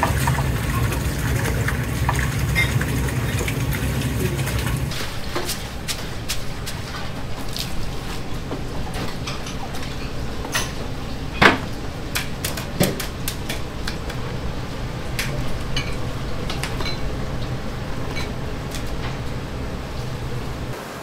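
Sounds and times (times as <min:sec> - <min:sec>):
trays and bowls clattering: 0:00.0 - 0:14.2, 0:15.1 - 0:20.7
steady low hum: 0:00.0 - 0:20.8.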